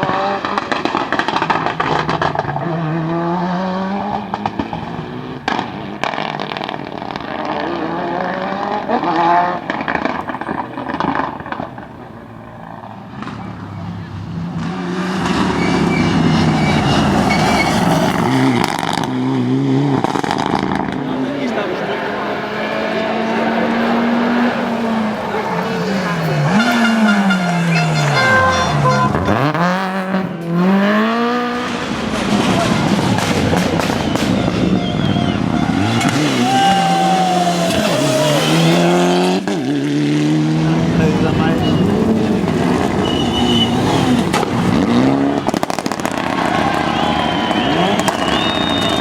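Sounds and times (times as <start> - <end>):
rally car engine at high revs: 0.0 - 49.0
sharp engine crackles: 0.0 - 49.0.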